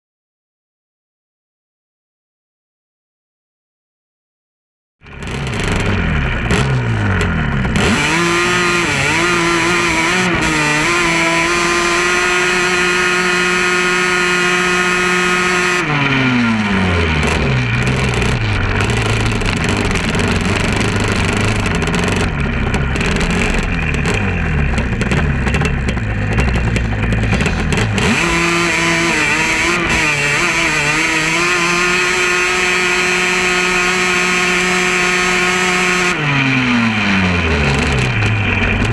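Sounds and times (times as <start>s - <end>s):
off-road vehicle engine revving: 5.0s - 38.9s.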